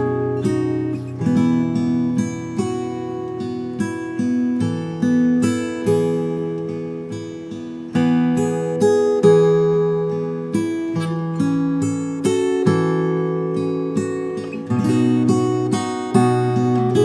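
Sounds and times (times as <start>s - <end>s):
acoustic guitar picking: 0.0s - 17.0s.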